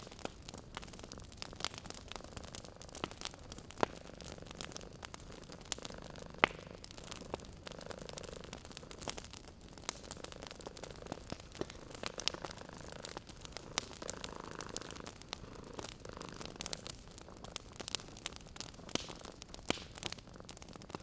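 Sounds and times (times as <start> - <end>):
wood fire crackling: 0.0 - 21.0
cat purring: 0.5 - 21.0.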